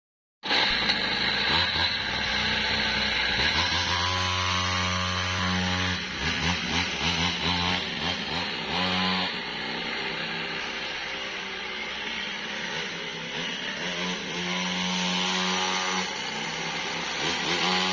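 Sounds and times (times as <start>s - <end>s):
small two-stroke engine revving: 0.4s - 17.9s.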